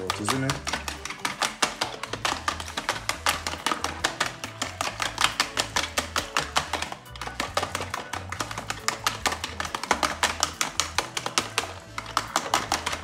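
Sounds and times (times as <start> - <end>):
background music with bass: 0.0 - 13.0
fork beating eggs in plastic tub: 0.0 - 13.0.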